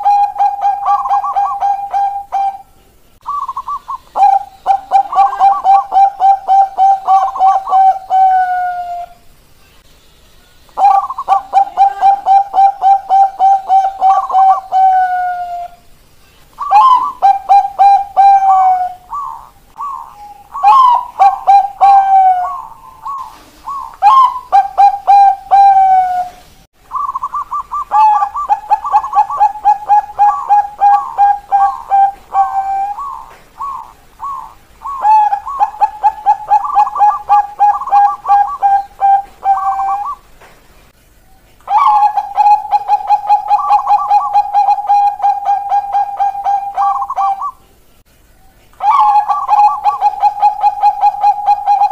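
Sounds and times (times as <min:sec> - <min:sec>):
doves cooing: 0:00.0 - 0:09.2, 0:10.8 - 0:15.8, 0:16.6 - 0:40.4, 0:41.6 - 0:47.8, 0:48.8 - 0:51.9.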